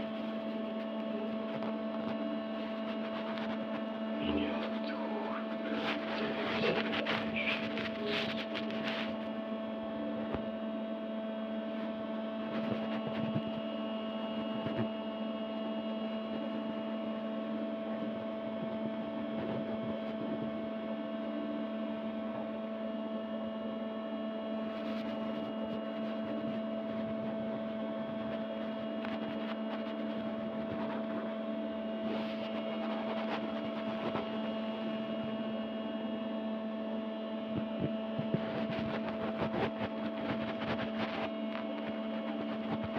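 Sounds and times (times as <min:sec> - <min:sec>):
steady multi-tone hum: 0:00.0 - 0:42.9.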